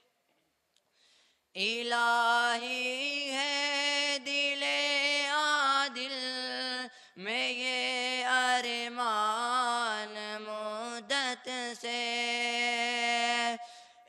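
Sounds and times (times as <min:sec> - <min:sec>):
man singing unaccompanied: 0:01.6 - 0:13.6.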